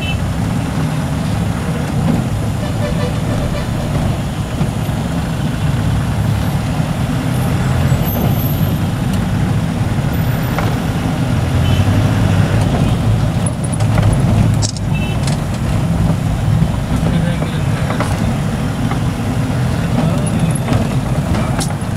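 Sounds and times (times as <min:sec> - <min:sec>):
car engine and road rumble: 0:00.0 - 0:21.9.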